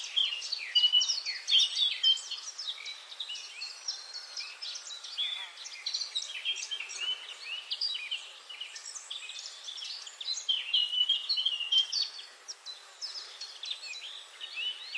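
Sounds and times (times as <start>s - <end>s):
faint steady hiss: 0.0s - 14.9s
songbirds chirping and trilling: 0.0s - 14.9s.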